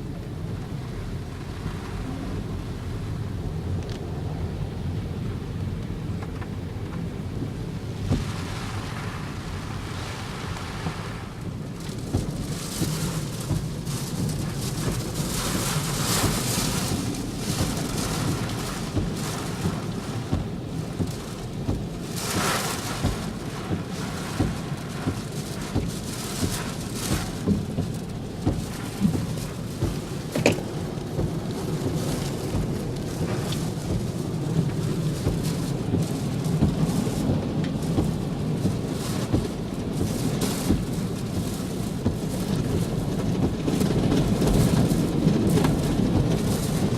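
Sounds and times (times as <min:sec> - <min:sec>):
heavy rain on a car: 0:00.0 - 0:46.9.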